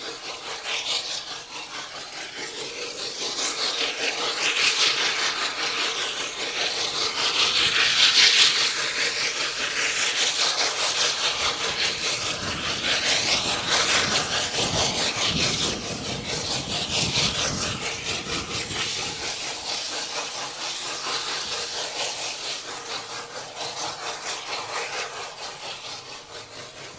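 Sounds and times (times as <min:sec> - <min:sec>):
steam locomotive exhaust beats: 0:00.0 - 0:26.9.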